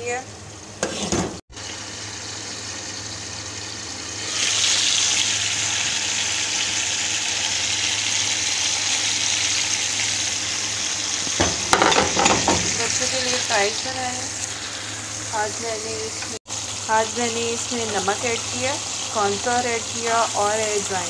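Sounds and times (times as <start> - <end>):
fries sizzling in hot oil: 0.0 - 21.0.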